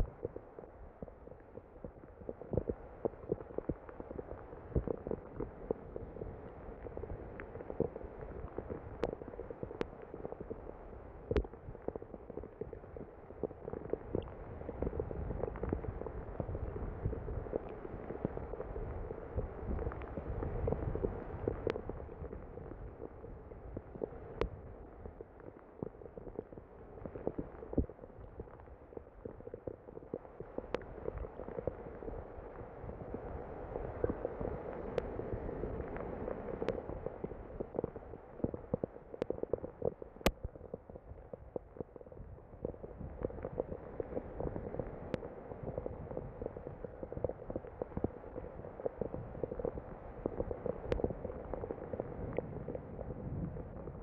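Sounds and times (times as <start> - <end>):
raindrops ticking on phone: 0.0 - 54.0.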